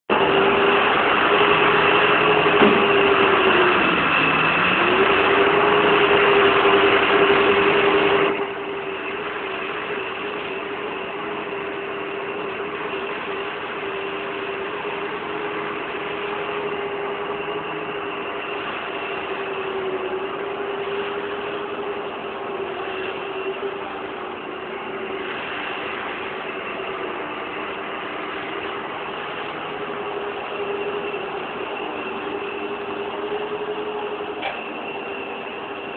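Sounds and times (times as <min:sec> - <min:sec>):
paving machine engine humming: 0:00.1 - 0:35.9.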